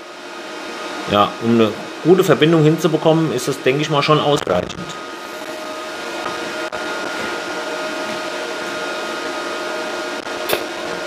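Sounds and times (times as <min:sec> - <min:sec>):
mechanical whir with hum: 0:00.0 - 0:11.0.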